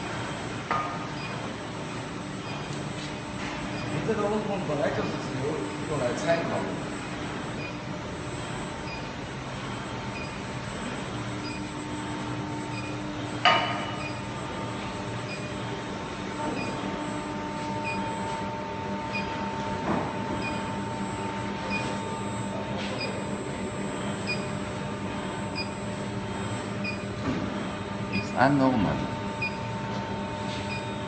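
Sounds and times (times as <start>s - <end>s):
furnace hum with faint whine: 0.0s - 31.0s.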